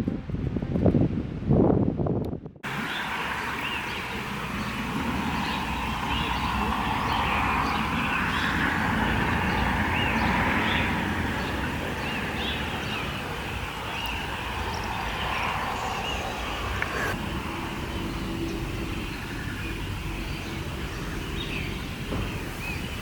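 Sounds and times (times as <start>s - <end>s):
rushing outdoor noise: 0.0s - 23.0s
birds chirping: 2.6s - 23.0s.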